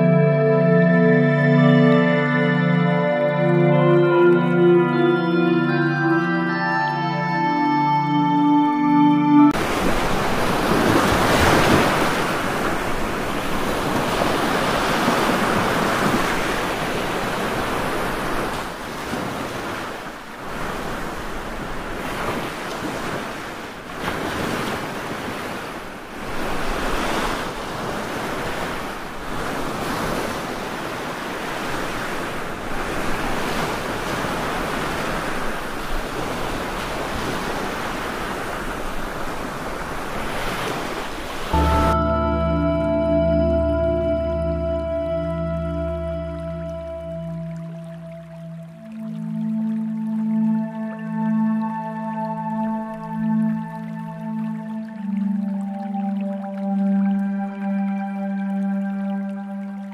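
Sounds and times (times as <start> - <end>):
rushing water: 9.5 - 59.9.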